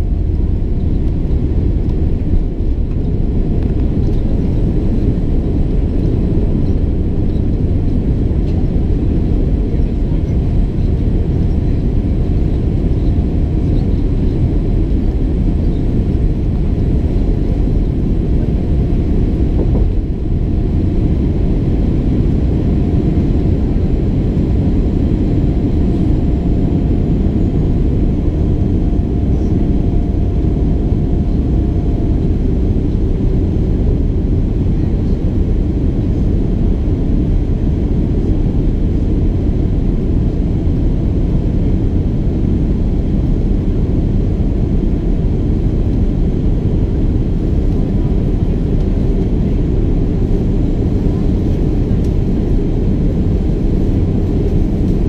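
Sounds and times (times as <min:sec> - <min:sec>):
airplane cabin engine and airflow rush: 0:00.0 - 0:55.0.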